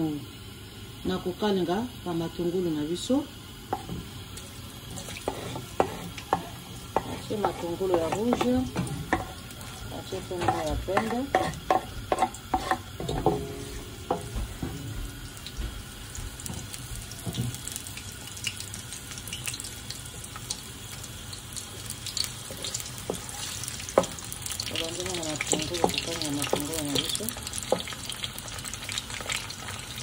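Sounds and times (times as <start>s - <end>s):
onions sizzling in oil: 0.0s - 30.0s.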